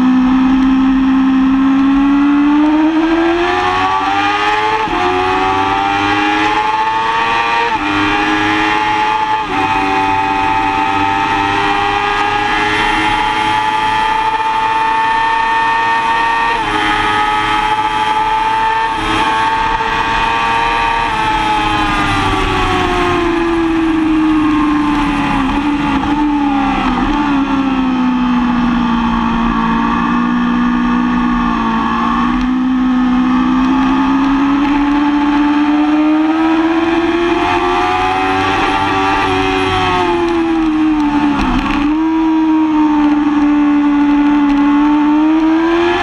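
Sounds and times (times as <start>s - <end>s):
motorcycle engine running hard: 0.0s - 46.0s.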